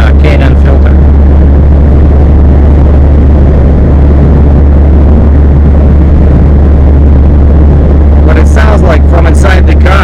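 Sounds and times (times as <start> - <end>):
car engine low drone: 0.0 - 10.0.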